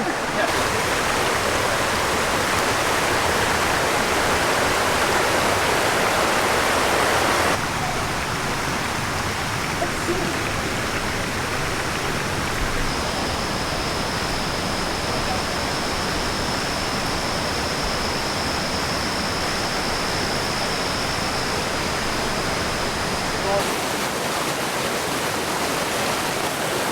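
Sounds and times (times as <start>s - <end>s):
creek water rushing: 0.0s - 26.9s.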